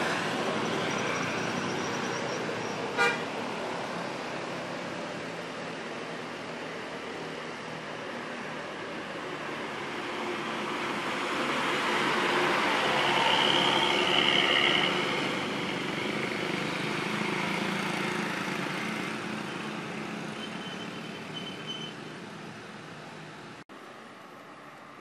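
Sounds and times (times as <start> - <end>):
bus diesel engine passing: 0.0 - 21.4.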